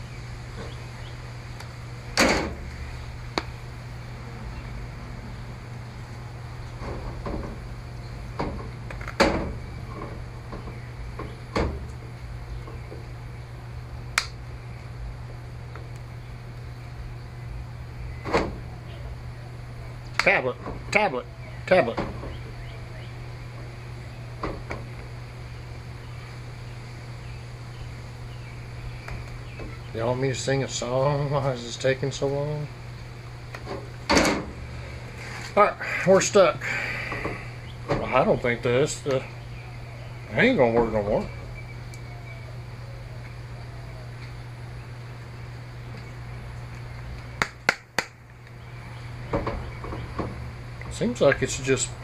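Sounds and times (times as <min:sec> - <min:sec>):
low hum: 0:00.0 - 0:52.0.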